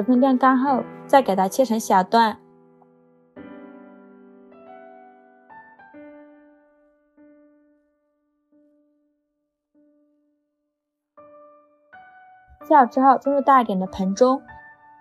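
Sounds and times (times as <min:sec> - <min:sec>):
slow piano notes: 0:00.0 - 0:10.6, 0:11.2 - 0:15.0.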